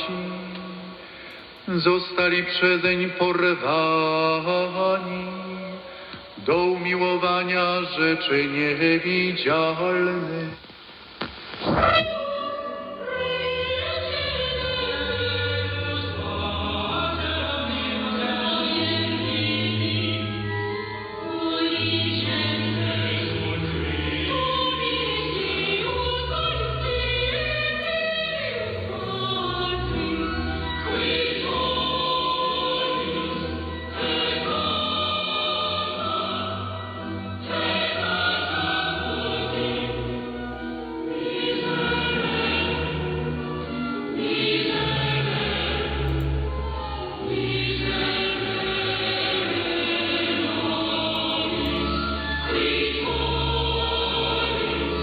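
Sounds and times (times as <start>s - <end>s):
muffled choir chanting over radio: 0.0s - 55.0s.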